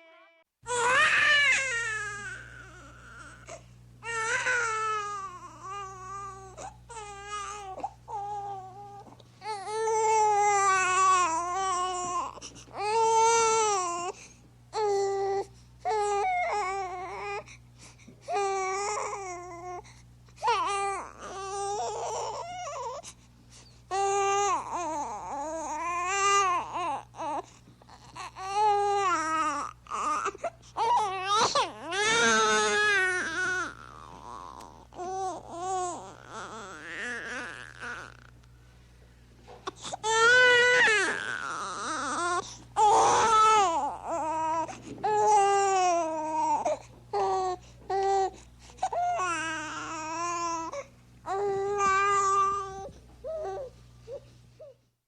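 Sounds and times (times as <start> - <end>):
infant crying: 0.0 - 14.2, 14.8 - 17.5, 18.3 - 23.1, 23.9 - 38.3, 39.6 - 54.8.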